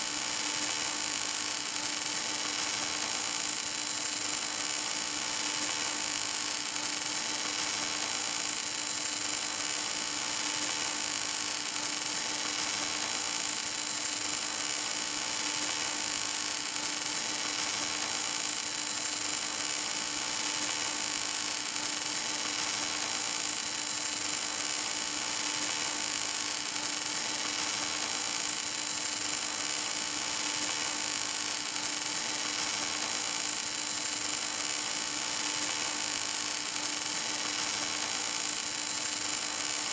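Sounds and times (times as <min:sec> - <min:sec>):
welding arc hissing and humming: 0:00.0 - 0:39.9.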